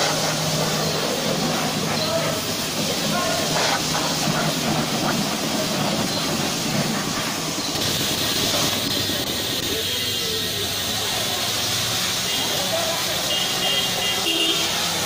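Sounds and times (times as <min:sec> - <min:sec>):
pressure washer spraying water: 0:00.0 - 0:15.0.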